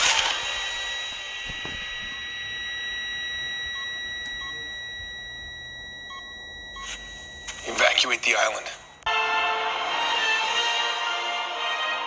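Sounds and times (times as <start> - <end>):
high-pitched alarm tone: 0.0 - 10.5.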